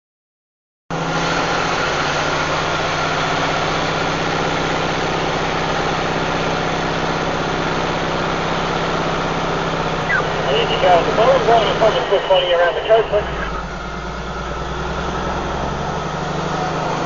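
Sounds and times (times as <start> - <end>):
truck diesel engine running: 0.9 - 17.0.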